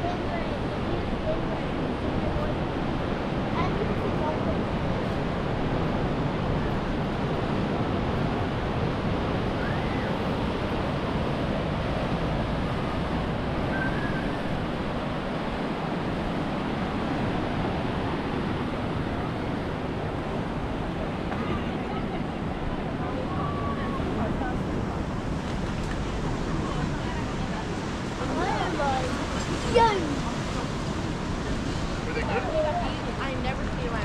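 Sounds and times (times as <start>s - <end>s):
ocean surf breaking on beach: 0.0s - 34.0s.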